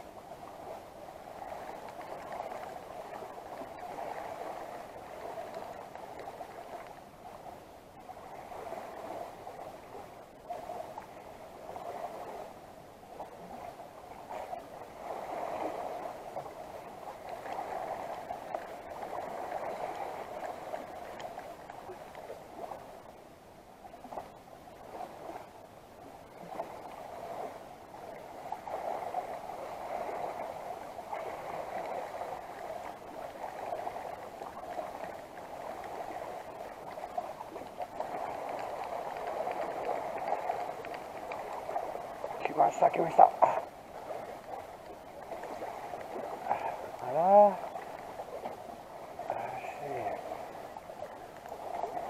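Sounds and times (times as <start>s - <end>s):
sea water lapping against rocks: 0.0s - 52.0s.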